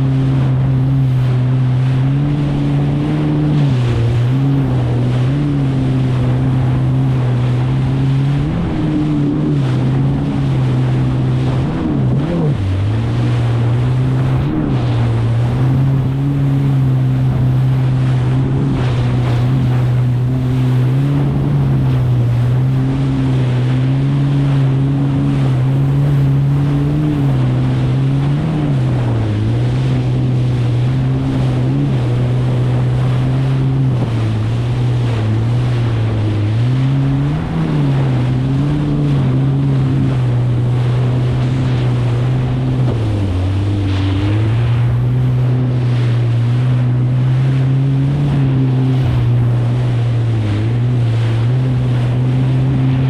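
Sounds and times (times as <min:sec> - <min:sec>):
water and wind noise: 0:00.0 - 0:53.0
watercraft engine running: 0:00.0 - 0:53.0.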